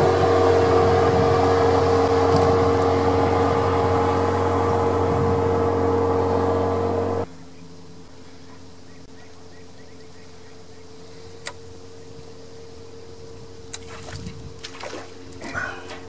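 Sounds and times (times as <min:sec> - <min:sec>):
engine-like hum: 0:00.0 - 0:16.0.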